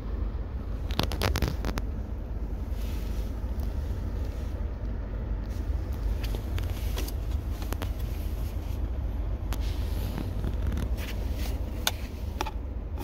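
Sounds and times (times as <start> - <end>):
truck engine idling: 1.8 - 13.0.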